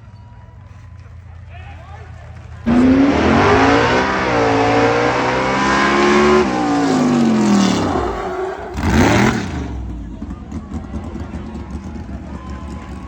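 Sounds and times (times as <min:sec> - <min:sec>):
vehicle engine revving: 0:02.5 - 0:13.0.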